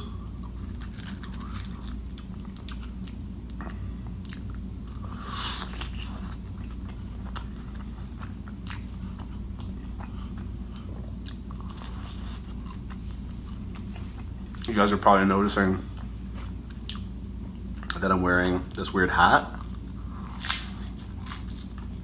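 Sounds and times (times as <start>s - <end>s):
person chewing pizza: 0.0s - 22.0s
steady low hum: 0.0s - 22.0s.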